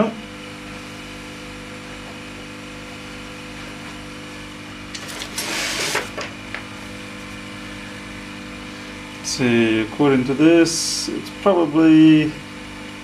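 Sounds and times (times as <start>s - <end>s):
electrical equipment hum: 0.0s - 13.0s.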